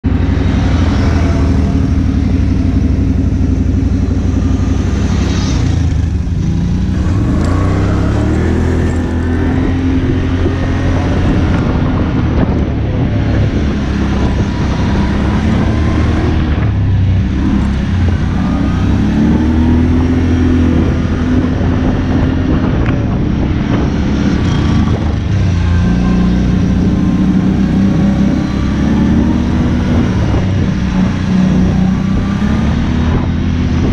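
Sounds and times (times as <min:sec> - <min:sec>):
atv engines revving: 0:00.0 - 0:33.9.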